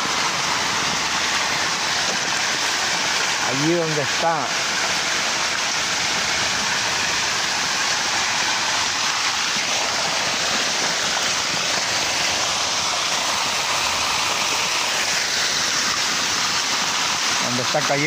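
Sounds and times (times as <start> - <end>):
heavy rain: 0.0 - 18.0
runoff water splashing on concrete: 0.0 - 18.0.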